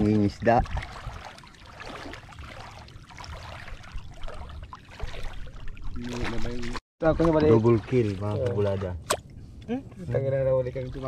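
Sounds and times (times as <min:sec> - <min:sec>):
shallow water sloshing and splashing: 0:00.0 - 0:09.4.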